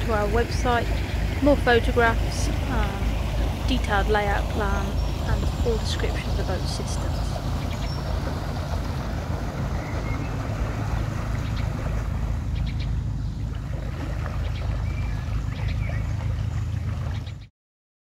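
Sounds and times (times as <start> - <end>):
birds chirping: 0.0 - 17.5
boat diesel engine running: 0.0 - 17.5.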